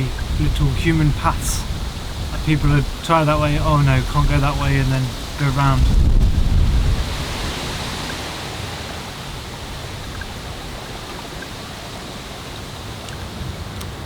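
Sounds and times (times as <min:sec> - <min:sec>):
water rushing in mountain stream: 0:00.0 - 0:14.0.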